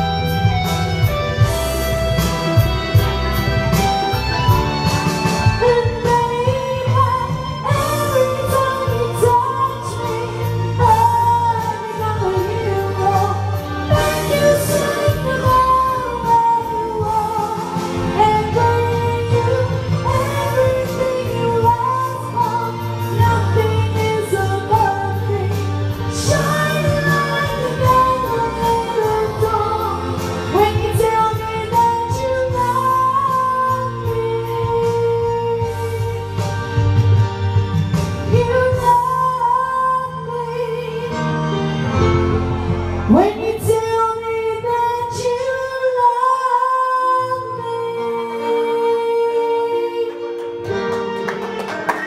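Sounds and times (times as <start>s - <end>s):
pop backing track: 0.0s - 52.0s
woman singing into microphone: 4.8s - 36.8s, 38.2s - 50.9s.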